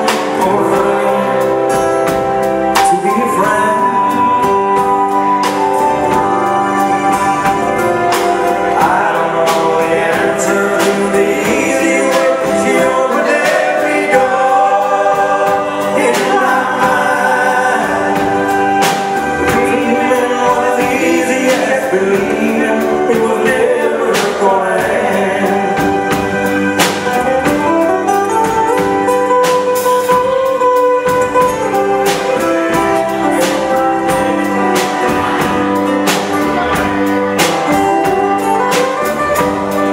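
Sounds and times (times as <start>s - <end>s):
drum kit beat: 0.0s - 39.9s
live pop band playing: 0.0s - 39.9s
person singing: 0.0s - 39.9s.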